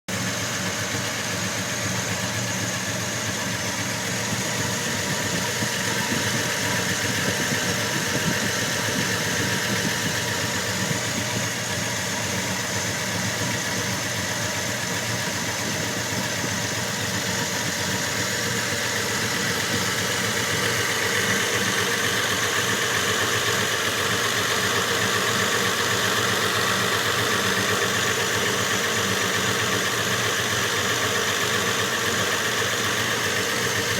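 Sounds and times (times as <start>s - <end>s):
pickup truck engine idling: 0.1s - 33.9s.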